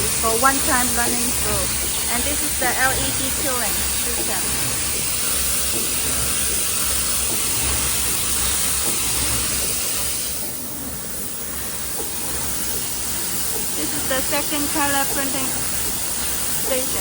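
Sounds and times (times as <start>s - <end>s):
low pulsing hum: 0.0s - 17.0s
machine hissing: 0.0s - 17.0s.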